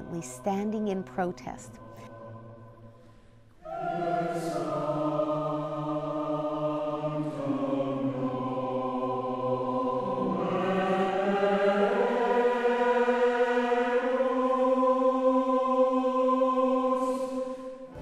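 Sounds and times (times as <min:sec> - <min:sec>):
choir holding slow chords: 0:00.0 - 0:18.0.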